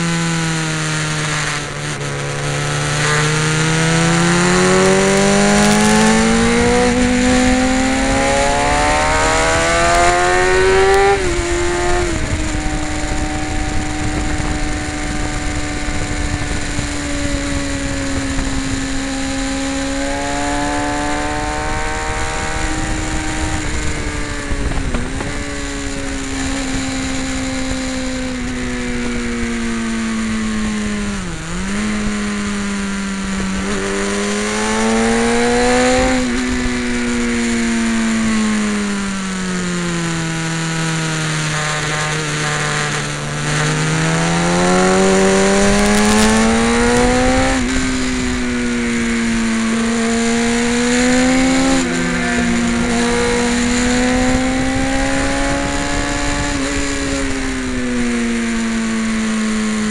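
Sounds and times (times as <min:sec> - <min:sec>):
motorcycle engine running hard: 0:00.0 - 0:59.9
wind rush: 0:01.2 - 0:59.3.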